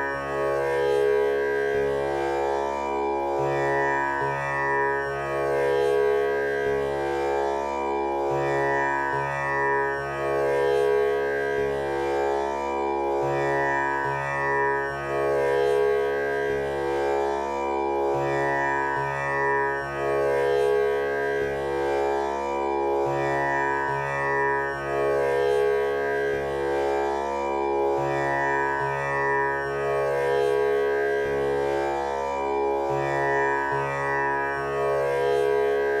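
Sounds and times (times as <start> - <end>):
tanpura drone: 0.0 - 36.0.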